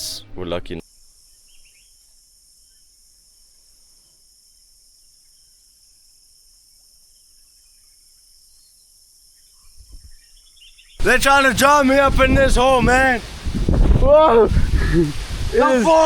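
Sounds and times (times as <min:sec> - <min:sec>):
crickets chirping: 0:00.8 - 0:16.0.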